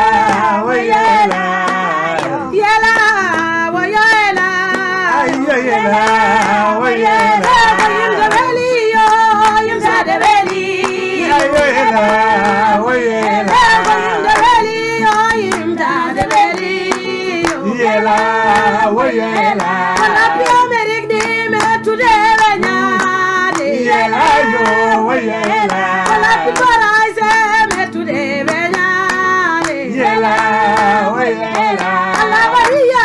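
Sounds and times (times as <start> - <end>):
hand claps: 0.0 - 33.0.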